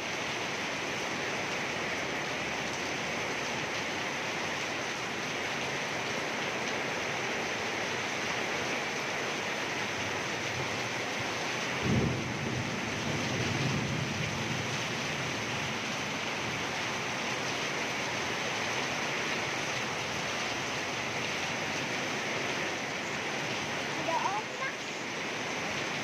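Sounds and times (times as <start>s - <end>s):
heavy rain and wind: 0.0s - 26.0s.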